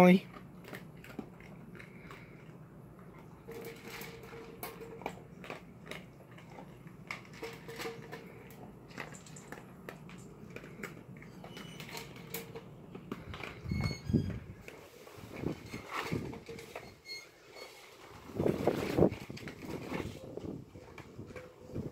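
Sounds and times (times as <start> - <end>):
dog crunching dry kibble: 0.0 - 16.8, 17.9 - 21.9.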